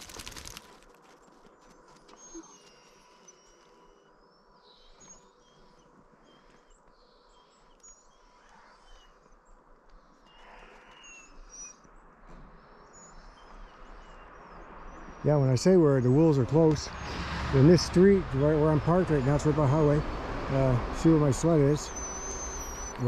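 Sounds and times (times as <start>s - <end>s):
small birds chirping: 1.2s - 23.0s.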